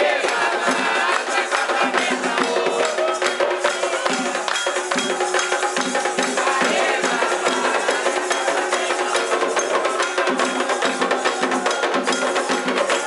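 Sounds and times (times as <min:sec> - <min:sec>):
hand drums: 0:00.0 - 0:13.0
voices singing a chant: 0:00.0 - 0:13.0
clicking percussion: 0:01.5 - 0:13.0.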